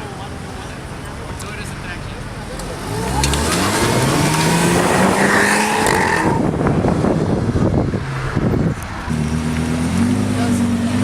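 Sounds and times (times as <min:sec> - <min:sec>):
car engine revving: 0:00.8 - 0:11.0.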